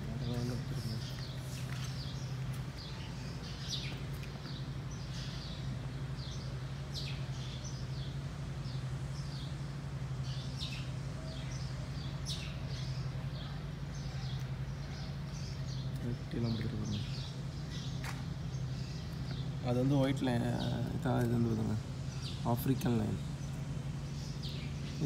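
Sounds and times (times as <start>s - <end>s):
small birds chirping: 0.0s - 25.0s
steady low hum: 0.0s - 25.0s.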